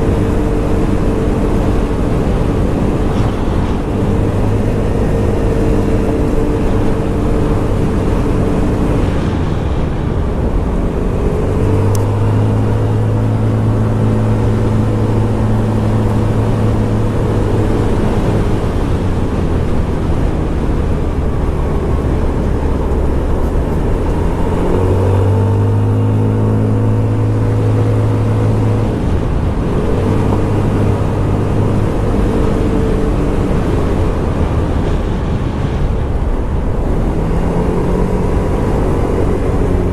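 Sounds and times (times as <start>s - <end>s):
scooter engine running: 0.0s - 35.2s
road and wind rumble: 0.0s - 39.9s.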